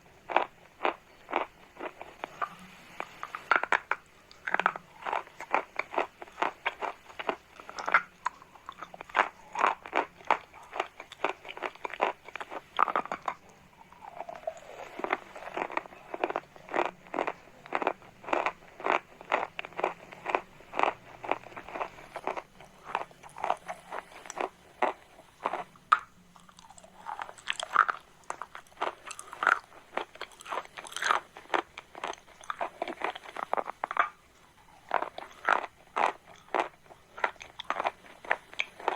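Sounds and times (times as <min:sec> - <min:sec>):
chalk being chewed: 0:00.3 - 0:38.9.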